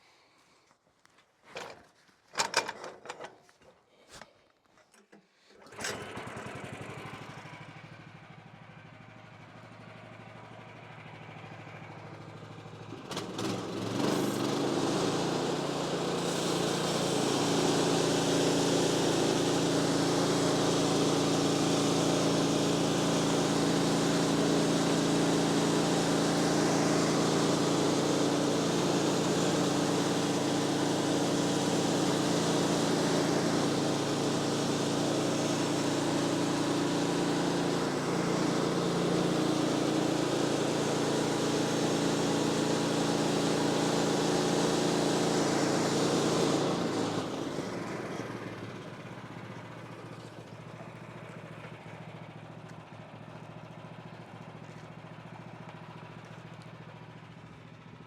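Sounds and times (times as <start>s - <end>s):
small gas engine running: 5.5s - 58.0s.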